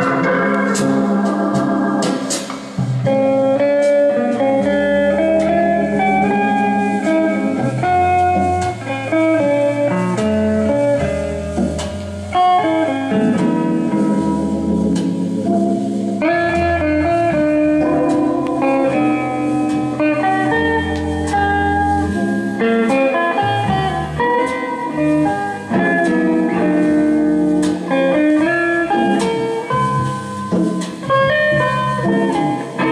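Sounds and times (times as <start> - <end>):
guitar music from record player: 0.0 - 32.9.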